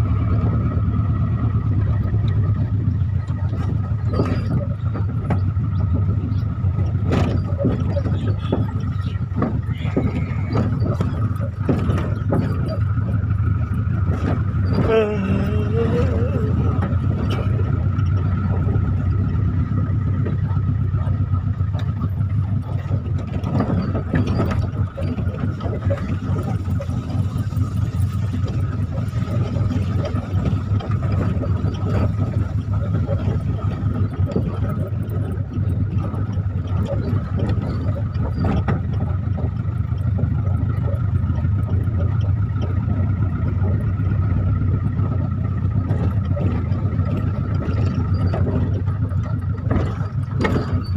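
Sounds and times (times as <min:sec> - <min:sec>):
car engine and road drone: 0:00.0 - 0:50.9.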